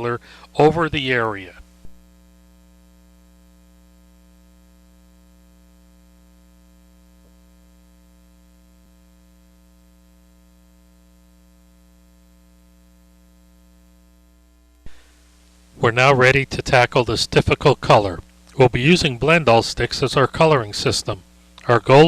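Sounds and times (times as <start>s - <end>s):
faint static hiss: 0.0s - 22.0s
low electrical hum: 0.0s - 22.0s.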